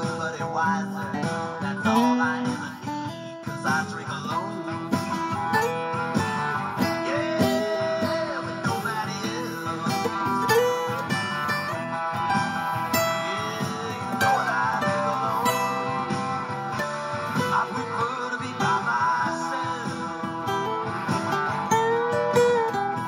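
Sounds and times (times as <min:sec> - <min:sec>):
bluesy acoustic guitar: 0:00.0 - 0:23.0.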